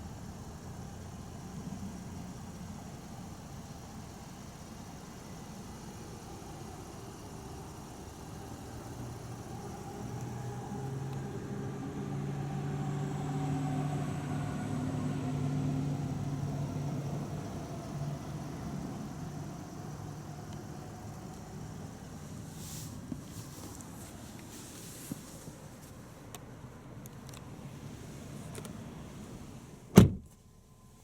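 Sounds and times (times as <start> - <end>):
car engine running: 0.0 - 29.6.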